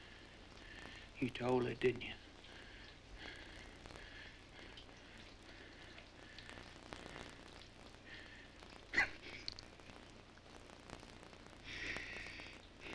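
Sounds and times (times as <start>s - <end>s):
faint background hiss: 0.0s - 12.9s.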